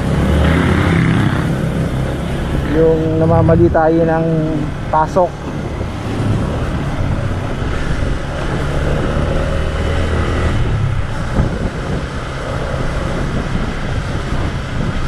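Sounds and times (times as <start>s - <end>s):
vehicle engine running: 0.0s - 15.0s
wind noise on microphone: 0.0s - 15.0s.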